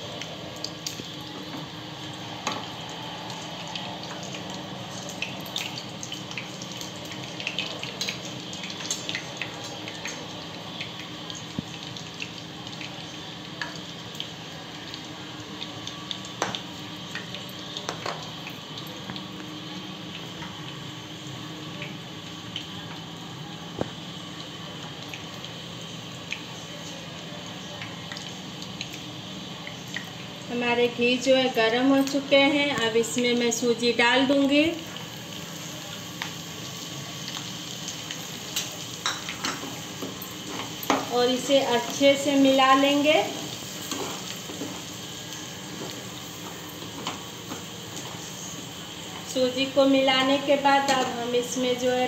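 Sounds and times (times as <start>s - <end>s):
fat sizzling in a pan: 0.0s - 52.0s.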